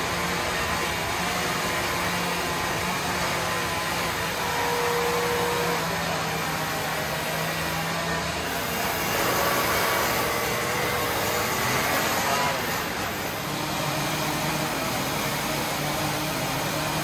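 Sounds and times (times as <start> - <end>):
electric grinder on wood: 0.0 - 17.0.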